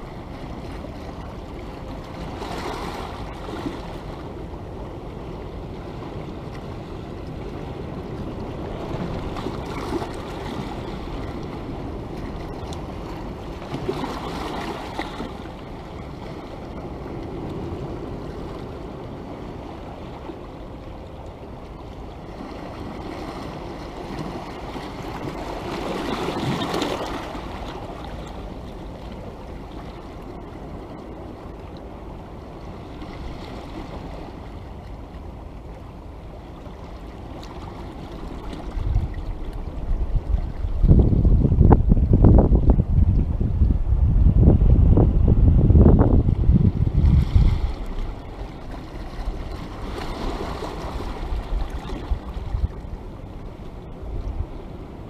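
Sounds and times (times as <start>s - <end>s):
waves on rocky shore: 0.0s - 55.0s.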